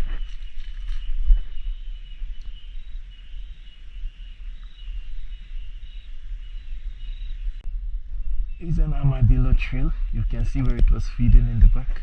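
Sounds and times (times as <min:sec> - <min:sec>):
cicadas chorus: 0:00.0 - 0:12.0
low rumble: 0:00.0 - 0:12.0.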